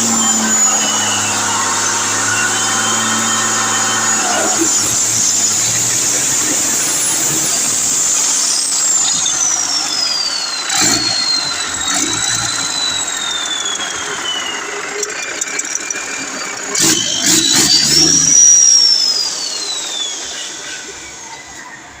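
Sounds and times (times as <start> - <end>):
diesel engine turbo whine: 0.0 - 22.0.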